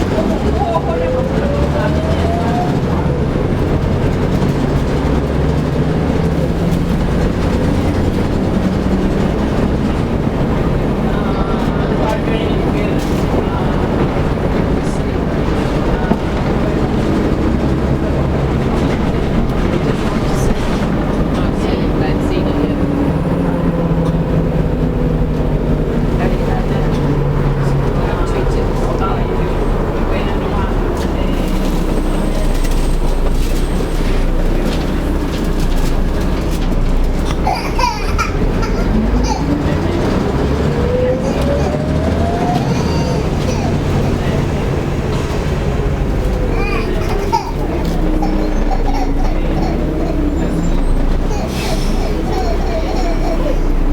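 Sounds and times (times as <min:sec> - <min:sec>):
bus body and drivetrain noise: 0:00.0 - 0:53.9
bus diesel engine rumbling: 0:00.0 - 0:53.9
road noise: 0:00.0 - 0:53.9.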